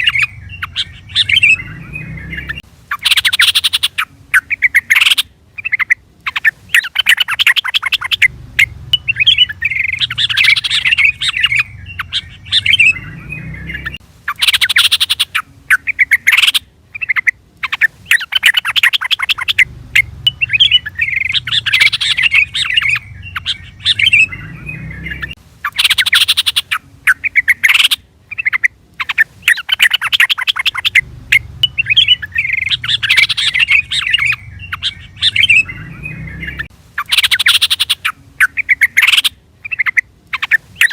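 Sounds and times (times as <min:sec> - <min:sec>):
bulbul chattering call: 0:00.0 - 0:40.9.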